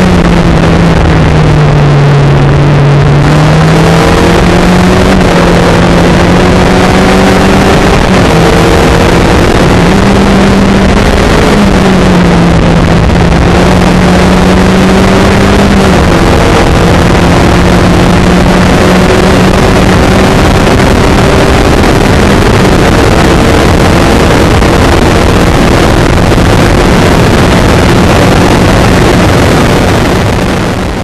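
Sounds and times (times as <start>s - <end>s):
heavy rushing noise: 0.0s - 31.0s
race car engine at high revs: 0.0s - 31.0s.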